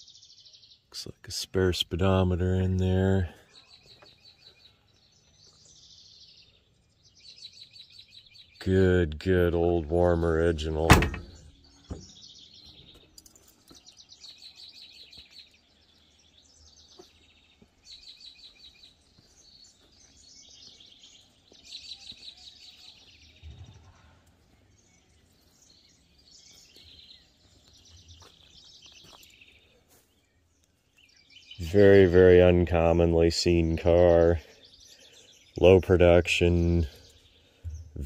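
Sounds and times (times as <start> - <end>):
songbirds trilling: 0.0 - 38.0.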